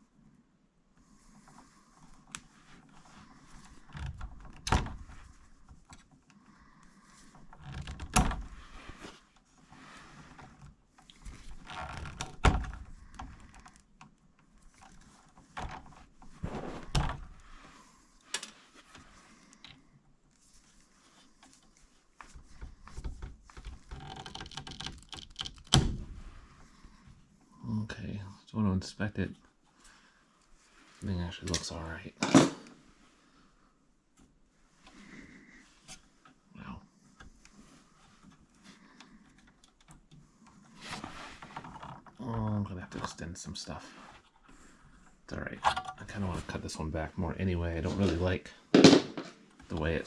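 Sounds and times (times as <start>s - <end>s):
rustling and scraping: 1.0s - 25.4s, 29.4s - 50.0s.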